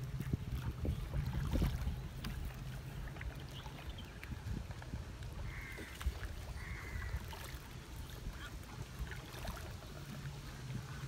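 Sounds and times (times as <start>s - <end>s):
wind rumble: 0.0s - 9.6s
water-side ambience: 0.0s - 11.0s.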